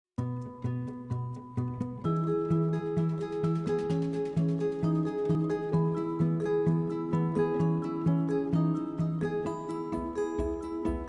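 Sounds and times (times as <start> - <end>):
plucked guitar notes: 0.2 - 11.0.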